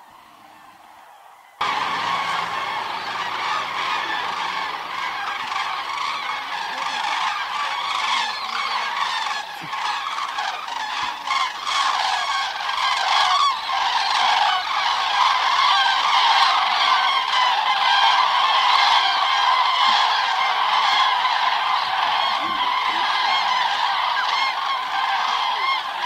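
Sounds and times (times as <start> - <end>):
cranes trumpeting calls: 0.0 - 26.0.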